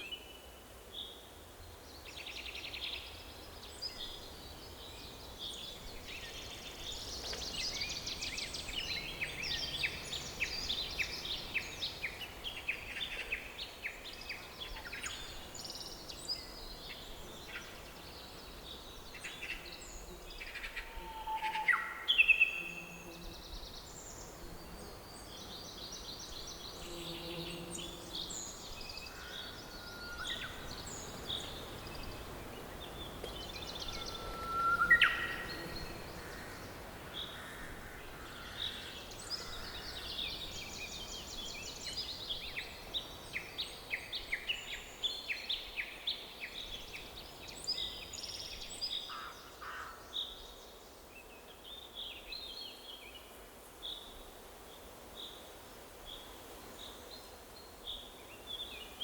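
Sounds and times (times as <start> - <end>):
faint background hiss: 0.0 - 59.0
songbirds singing and chirping: 0.0 - 59.0.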